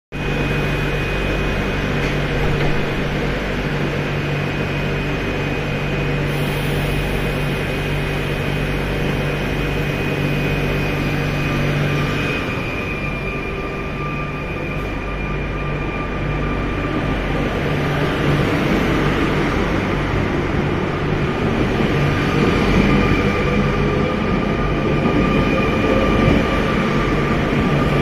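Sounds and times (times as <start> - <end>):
train equipment low drone: 0.1 - 28.0
high-pitched whine: 0.2 - 28.0.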